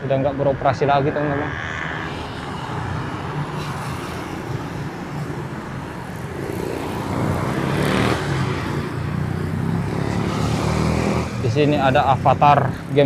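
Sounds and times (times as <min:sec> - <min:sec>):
road traffic passing: 0:00.0 - 0:13.0
vehicle passing loudly: 0:00.4 - 0:12.0.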